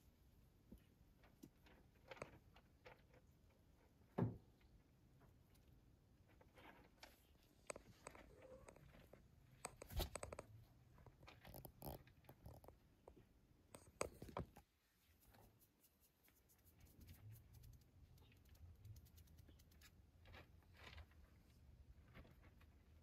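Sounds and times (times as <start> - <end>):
faint scratching and rustling: 0.7 - 23.0.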